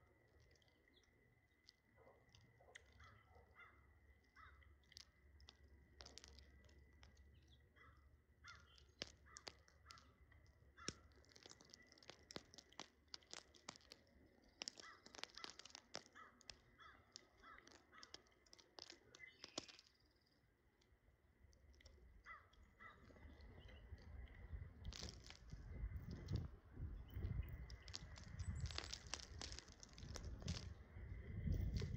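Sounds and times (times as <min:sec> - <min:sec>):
birds pecking taps: 0:00.4 - 0:20.9, 0:21.5 - 0:31.9.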